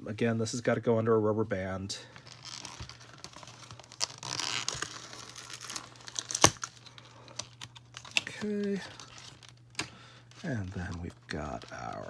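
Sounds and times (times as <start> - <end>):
packaging crinkling: 2.1 - 12.0.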